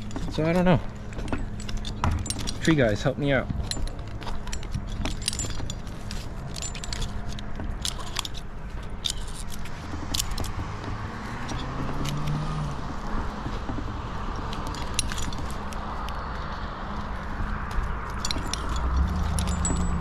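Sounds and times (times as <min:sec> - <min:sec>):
metal hardware clinking: 0:00.0 - 0:12.4, 0:14.4 - 0:16.2, 0:17.6 - 0:20.0.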